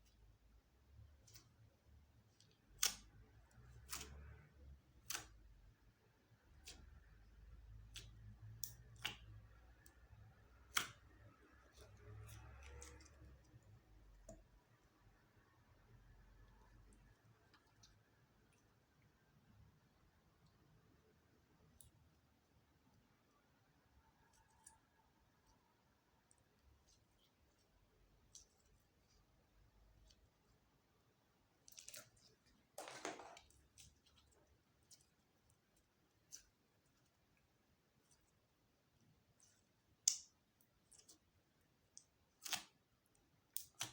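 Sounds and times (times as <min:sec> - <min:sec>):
slime squelching: 0:00.0 - 0:43.9.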